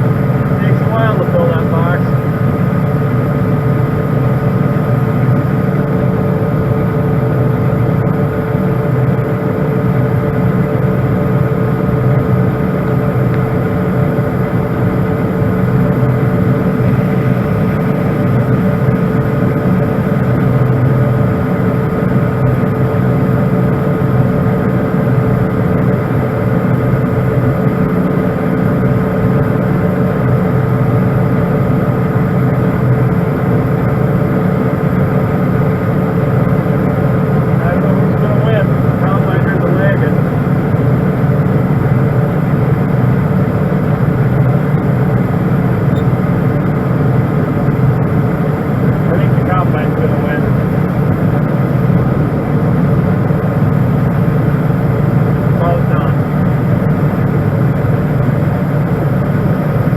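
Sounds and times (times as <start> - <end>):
auger whine: 0.0 - 59.9
combine engine hum: 0.0 - 59.9.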